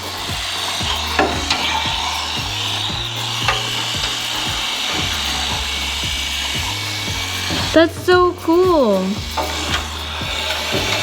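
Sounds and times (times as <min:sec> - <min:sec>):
low hum: 0:00.0 - 0:11.0
small motor whirring: 0:00.0 - 0:11.0.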